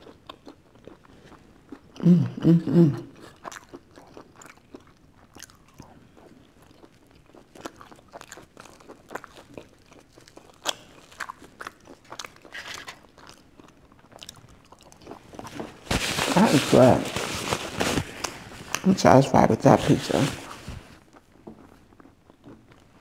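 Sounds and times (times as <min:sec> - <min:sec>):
chewing and crunching pizza crust: 0:00.0 - 0:02.1, 0:03.1 - 0:18.9, 0:19.8 - 0:23.0.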